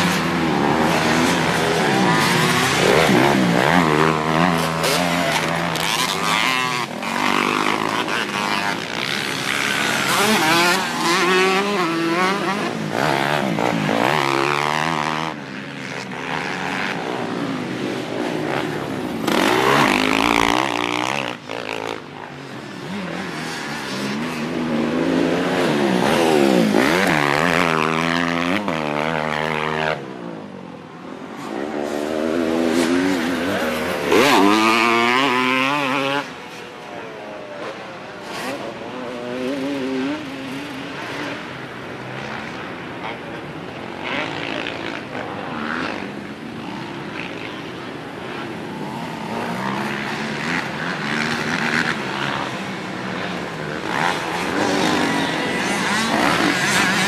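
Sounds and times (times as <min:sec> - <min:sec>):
dirt bike engine revving: 0:00.0 - 0:22.0, 0:22.6 - 0:30.0, 0:31.4 - 0:36.6, 0:43.9 - 0:57.0.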